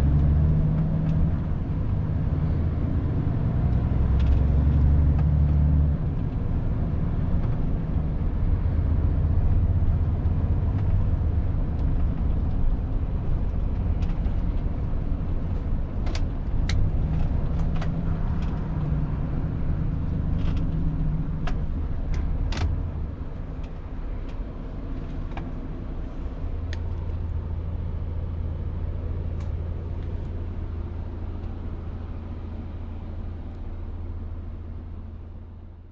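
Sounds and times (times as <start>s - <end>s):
diesel truck engine rumble: 0.0s - 35.9s.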